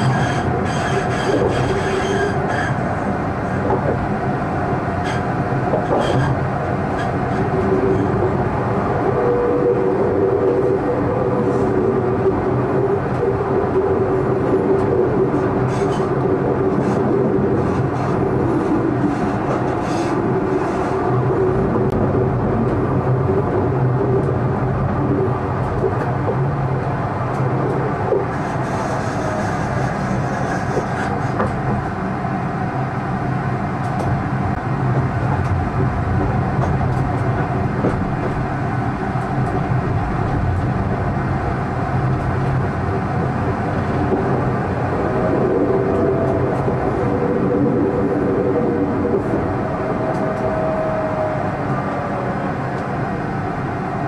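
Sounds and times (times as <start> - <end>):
tram hum with wheel-on-rail noise: 0.0 - 54.0.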